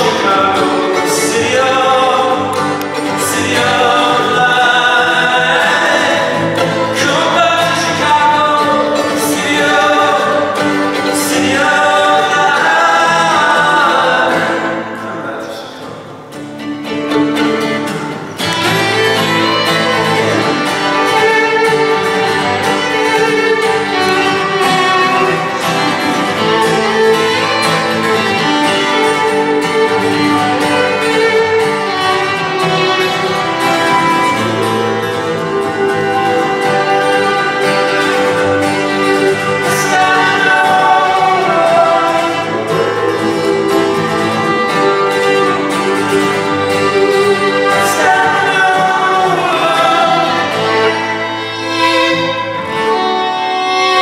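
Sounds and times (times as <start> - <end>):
bowed violin: 0.0 - 15.4, 16.6 - 54.0
voices singing: 0.0 - 16.3, 18.4 - 53.1
acoustic guitars: 0.0 - 54.0.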